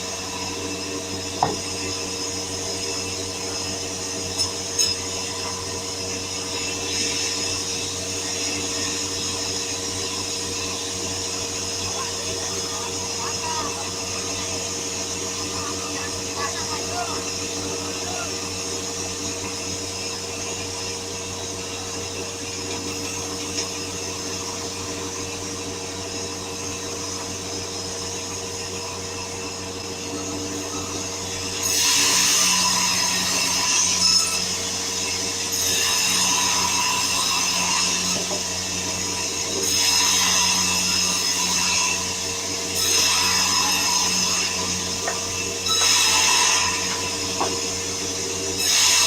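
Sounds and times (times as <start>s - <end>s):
power saw cutting wood: 0.0s - 49.0s
sawmill machinery humming: 0.0s - 49.0s.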